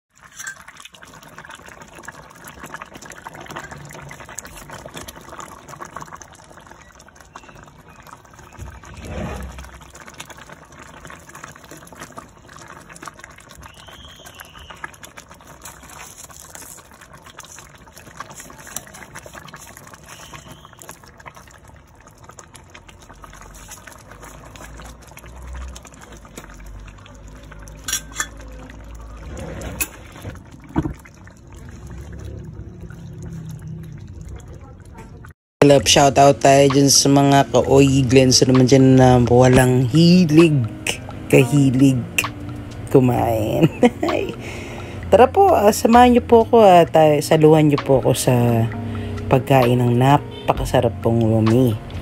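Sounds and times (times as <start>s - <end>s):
soup boiling and bubbling: 0.1s - 52.0s.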